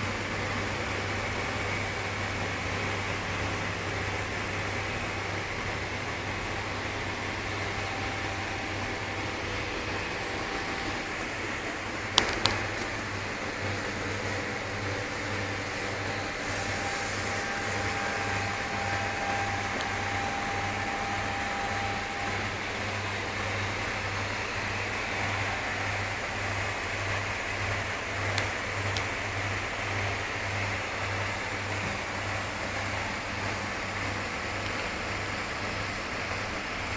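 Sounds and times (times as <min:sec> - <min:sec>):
faint held whine: 0:00.0 - 0:36.9
machinery fan-like hum: 0:00.0 - 0:36.9.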